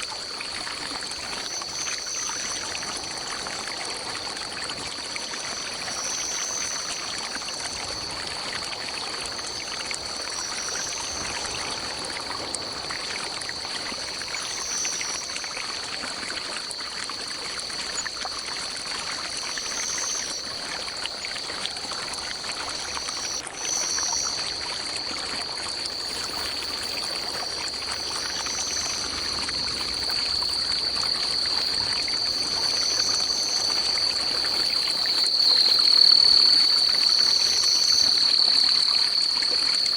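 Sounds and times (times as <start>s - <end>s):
pulsing insect call: 0.0s - 39.9s
stream running over rocks: 0.0s - 39.9s
high insect drone: 0.1s - 39.9s.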